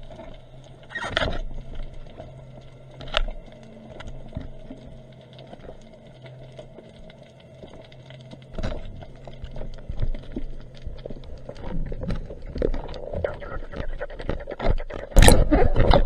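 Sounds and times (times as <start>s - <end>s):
low steady hum: 0.0s - 16.0s
underwater crackle of clicks: 0.0s - 16.0s.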